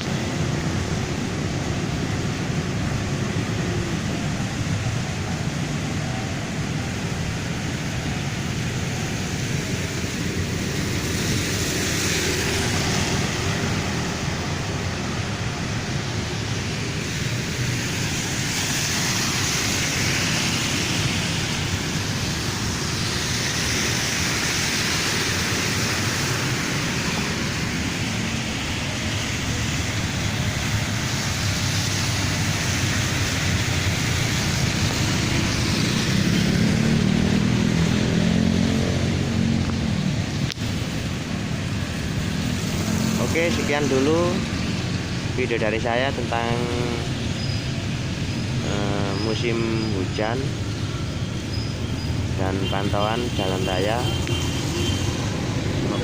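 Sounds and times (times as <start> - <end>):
engine rumble of traffic: 0.0 - 56.0
tyres hissing on wet road: 0.0 - 56.0.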